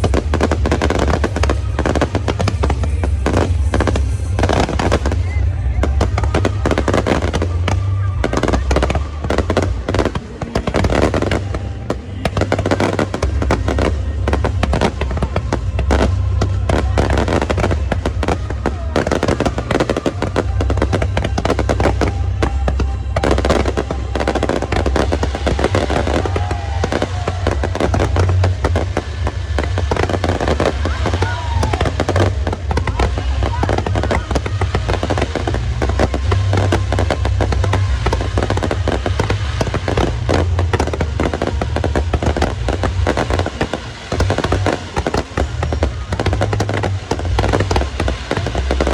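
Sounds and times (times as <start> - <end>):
fireworks crackling and popping: 0.0 - 48.9
low rumble: 0.0 - 48.9.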